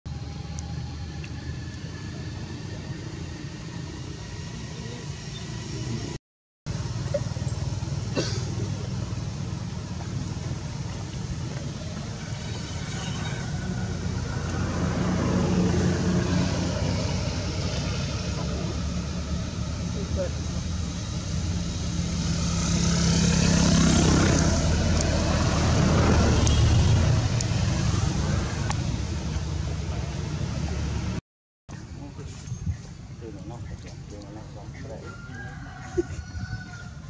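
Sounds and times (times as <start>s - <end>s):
outdoor background rumble: 0.1s - 37.0s.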